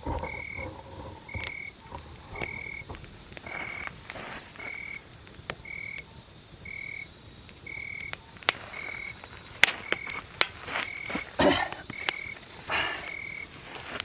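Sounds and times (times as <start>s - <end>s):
frog calling: 0.0s - 13.6s
sharp cracks: 0.0s - 14.0s.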